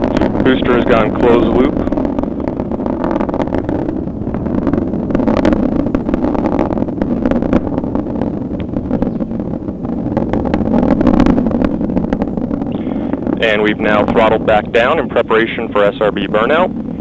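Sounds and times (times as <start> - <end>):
rocket engine roar with crackling: 0.0 - 17.0.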